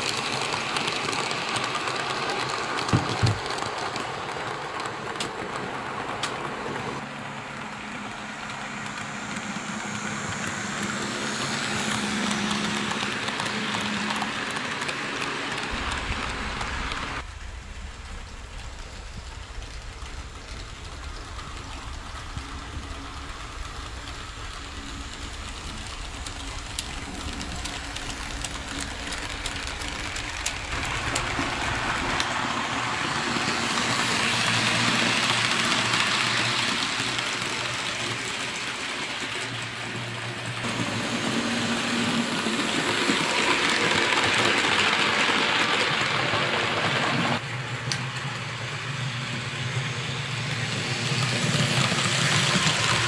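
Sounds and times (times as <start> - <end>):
model train rolling and humming: 0.0 - 53.0.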